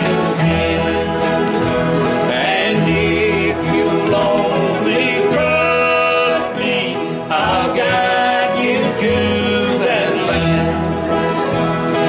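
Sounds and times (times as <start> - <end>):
men singing: 0.0 - 11.2
strummed acoustic guitar: 0.0 - 12.0.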